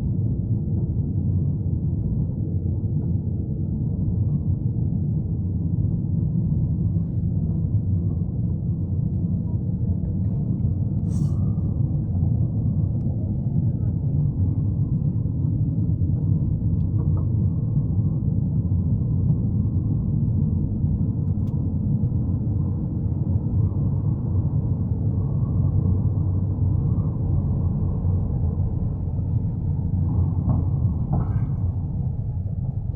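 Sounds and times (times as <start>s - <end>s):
steady low rumble: 0.0s - 32.9s.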